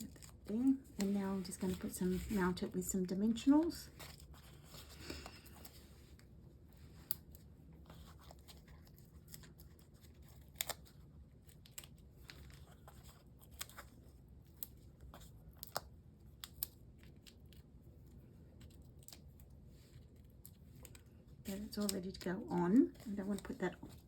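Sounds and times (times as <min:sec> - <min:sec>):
paper handling: 0:00.0 - 0:24.0.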